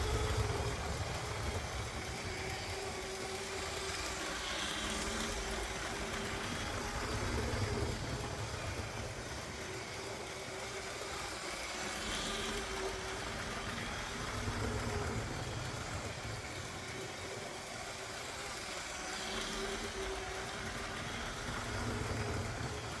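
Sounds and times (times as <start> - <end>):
toy electric train running: 0.0 - 23.0.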